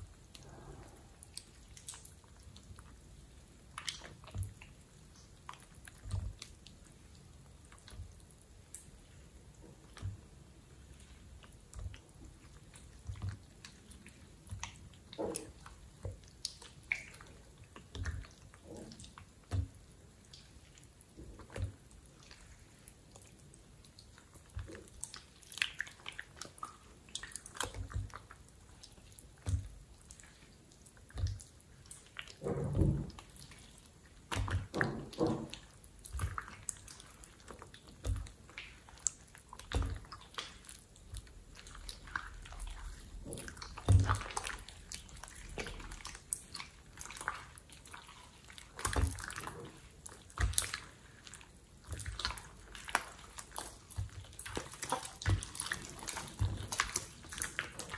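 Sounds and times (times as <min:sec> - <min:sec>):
slime squelching by hand: 0:00.0 - 0:57.9.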